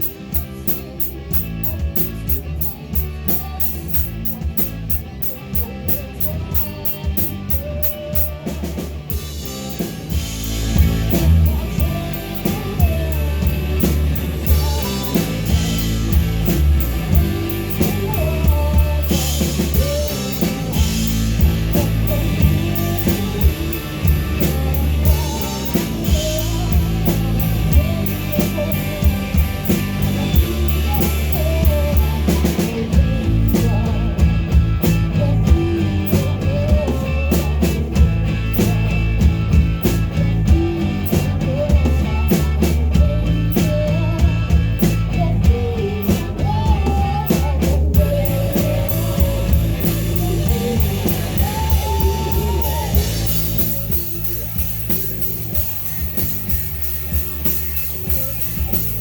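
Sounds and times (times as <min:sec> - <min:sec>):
bass: 0:00.0 - 0:59.0
drum kit: 0:00.0 - 0:59.0
electric guitar: 0:00.0 - 0:59.0
person singing: 0:00.0 - 0:59.0.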